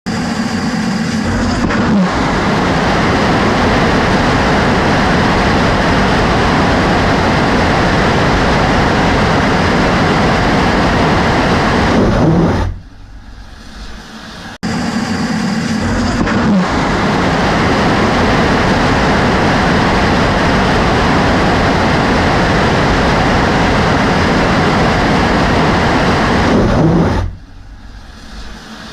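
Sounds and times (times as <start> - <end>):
rocket engine roaring: 0.1 - 28.9.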